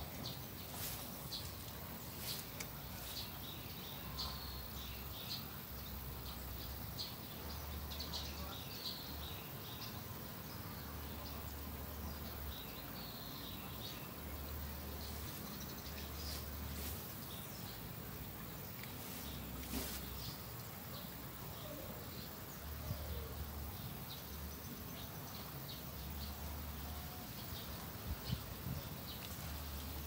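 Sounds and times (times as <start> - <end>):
outdoor background noise: 0.0 - 30.0
small birds chirping: 0.0 - 30.0.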